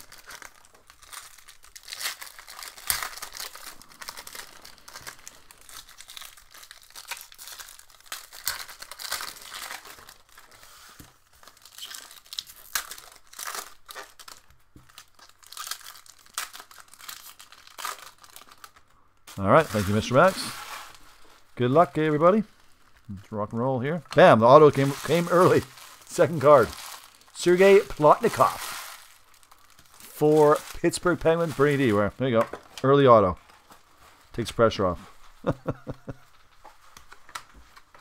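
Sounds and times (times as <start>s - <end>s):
foil wrappers crinkling and tearing: 0.0s - 38.0s.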